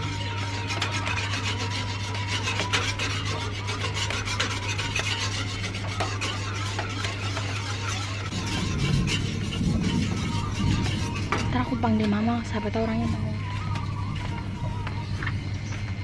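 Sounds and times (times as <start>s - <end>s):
whisk scraping around a wok: 0.0s - 14.4s
steady low hum: 0.0s - 16.0s.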